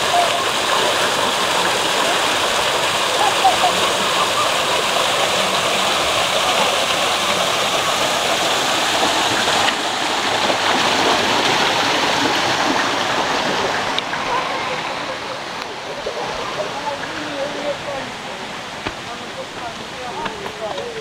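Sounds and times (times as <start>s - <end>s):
waterfall splashing into basin: 0.0s - 21.0s.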